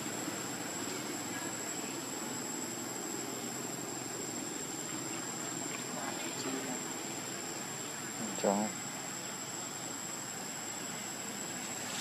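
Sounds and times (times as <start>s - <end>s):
background hiss: 0.0s - 12.0s
high-pitched insect trill: 0.0s - 12.0s.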